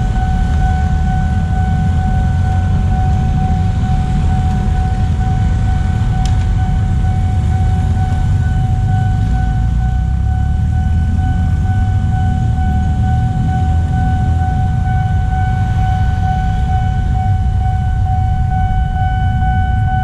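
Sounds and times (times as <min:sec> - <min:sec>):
level crossing alarm tone: 0:00.0 - 0:20.0
motorcycles and traffic rumble: 0:00.0 - 0:20.0.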